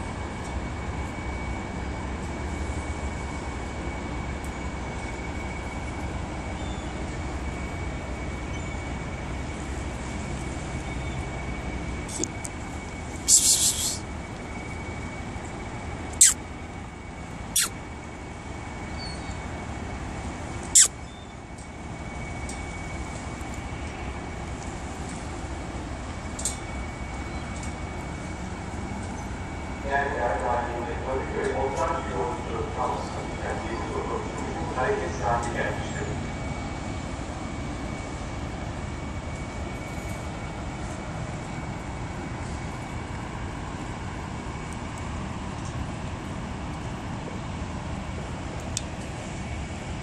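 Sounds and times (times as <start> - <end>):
low rumbling background noise: 0.0 - 50.0.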